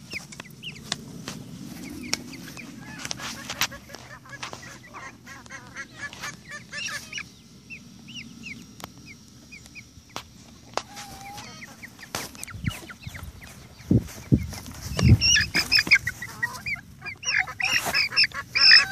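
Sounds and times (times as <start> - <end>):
chickens calling: 0.0 - 18.9
chicken chirps: 1.8 - 18.9.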